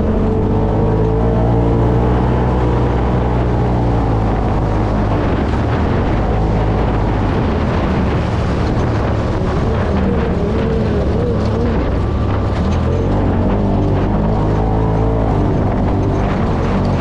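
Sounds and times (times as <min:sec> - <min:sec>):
vehicle engine running: 0:00.0 - 0:17.0
wind buffeting microphone: 0:00.0 - 0:17.0.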